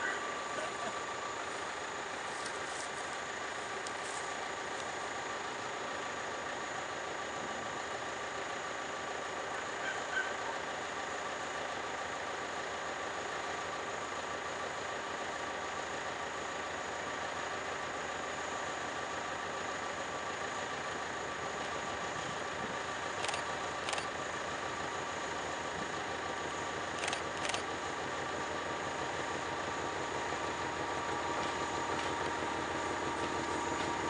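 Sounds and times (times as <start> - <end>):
distant diesel locomotive engine: 0.0 - 34.0.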